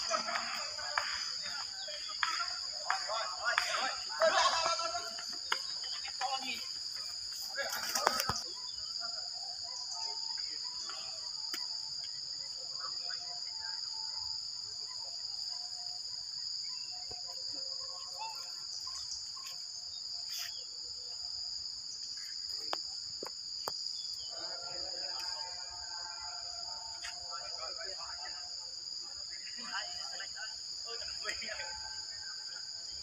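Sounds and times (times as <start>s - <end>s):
insect chorus drone: 0.0s - 33.0s.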